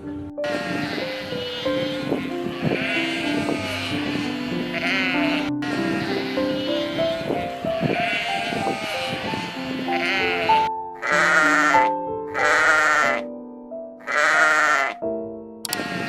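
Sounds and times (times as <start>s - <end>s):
soft background music: 0.0s - 16.0s
sheep bleating: 0.5s - 13.2s, 14.0s - 15.0s, 15.7s - 16.0s.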